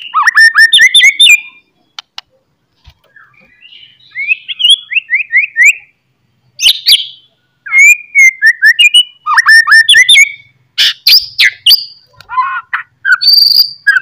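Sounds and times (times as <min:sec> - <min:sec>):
songbird whistling and trilling: 0:00.0 - 0:01.7, 0:03.1 - 0:05.9, 0:06.6 - 0:14.0.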